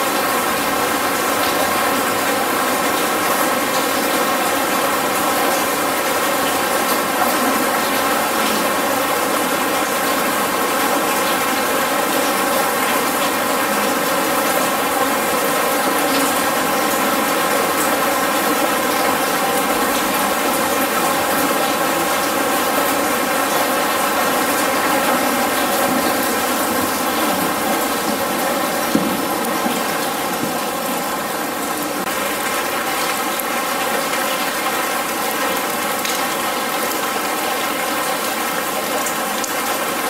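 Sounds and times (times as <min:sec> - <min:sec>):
artificial rain pouring: 0:00.0 - 0:40.0.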